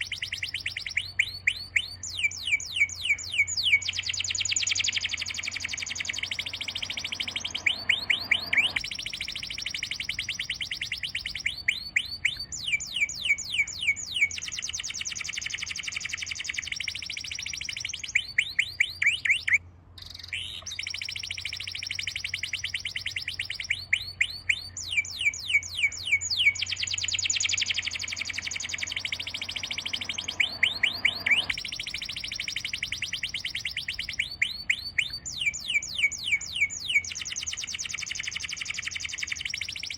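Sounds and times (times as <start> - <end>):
birds trilling and chirping: 0.0 - 39.9.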